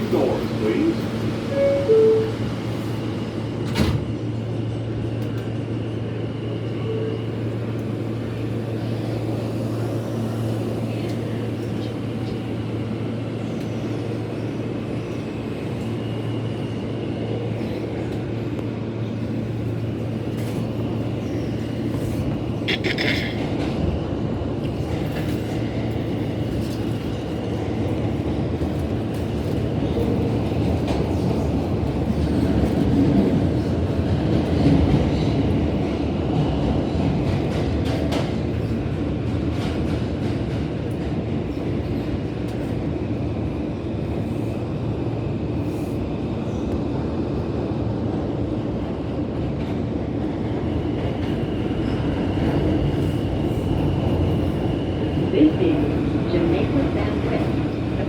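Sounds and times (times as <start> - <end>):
subway wheels rumbling on rail: 0.0 - 58.0.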